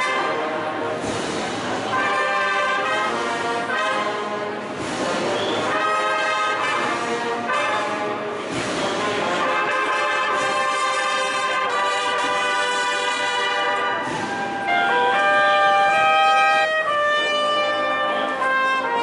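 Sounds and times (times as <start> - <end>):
brass band playing a march: 0.0 - 19.0.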